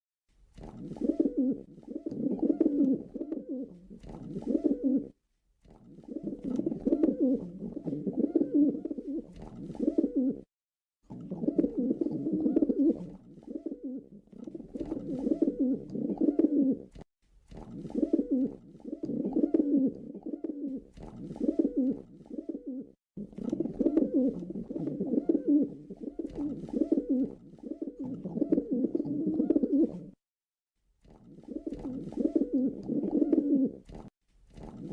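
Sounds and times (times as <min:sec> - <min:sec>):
pigeon cooing: 0:00.6 - 0:05.2, 0:06.0 - 0:10.5, 0:11.1 - 0:17.0, 0:17.7 - 0:30.2, 0:31.4 - 0:34.0.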